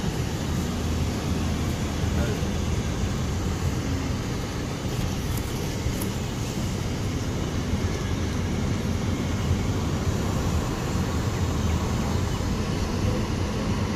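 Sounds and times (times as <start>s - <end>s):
car road and wind rumble: 0.0s - 13.9s.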